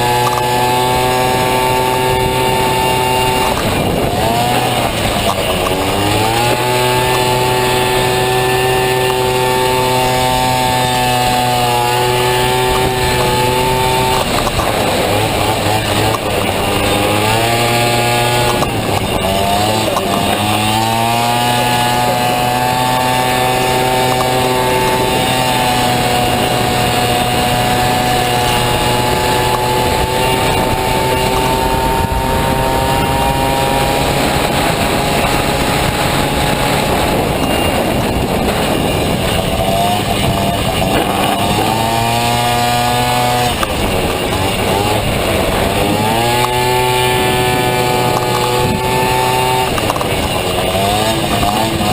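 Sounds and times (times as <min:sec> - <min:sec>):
scooter engine revving high: 0:00.0 - 0:51.9.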